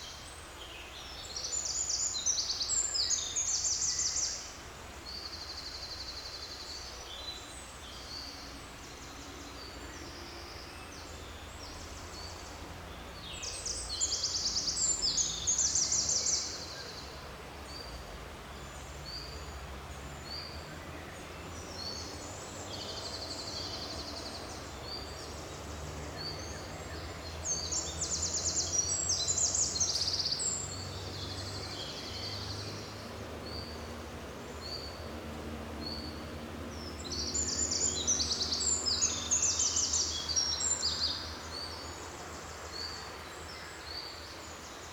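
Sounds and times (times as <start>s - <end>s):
birds chirping: 5.1s - 44.9s.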